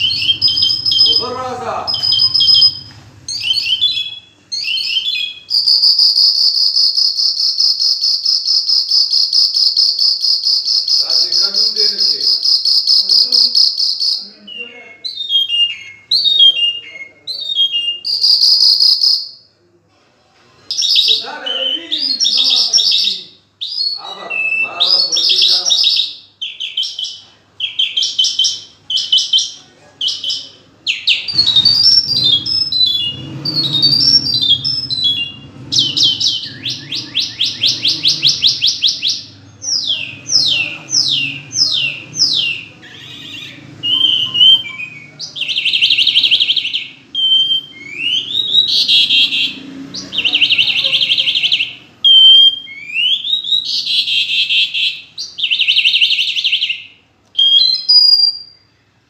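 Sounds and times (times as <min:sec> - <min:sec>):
songbird singing varied song: 0:00.0 - 0:19.3, 0:20.7 - 0:58.7.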